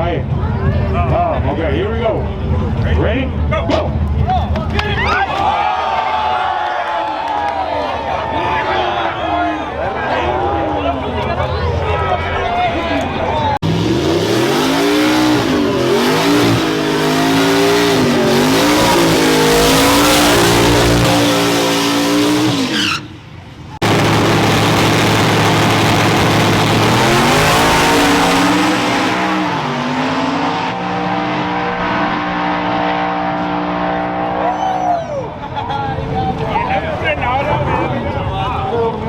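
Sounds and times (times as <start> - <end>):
truck engines under heavy load: 0.0 - 6.3, 6.9 - 39.0
tire noise: 0.0 - 39.0.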